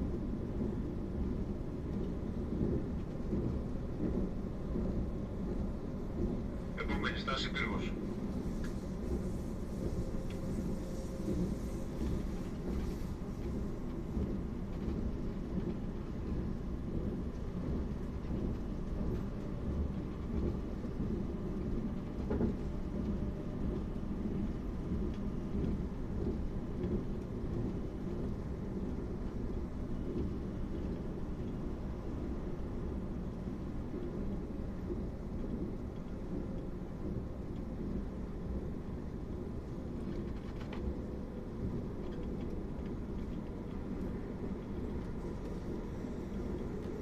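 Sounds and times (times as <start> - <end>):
train carriage rumble: 0.0 - 47.0.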